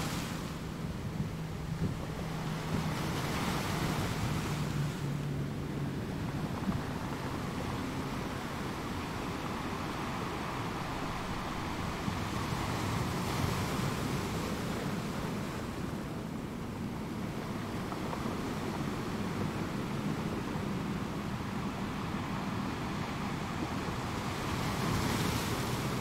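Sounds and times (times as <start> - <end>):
outdoor ambient hiss: 0.0 - 26.0.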